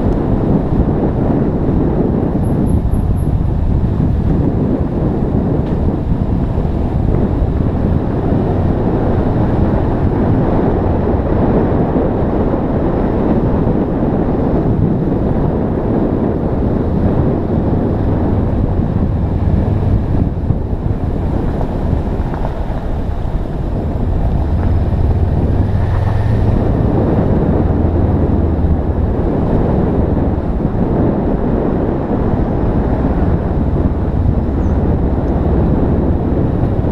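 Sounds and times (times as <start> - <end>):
motorcycle engine drone: 0.0 - 36.9
wind rushing over microphone: 0.0 - 36.9.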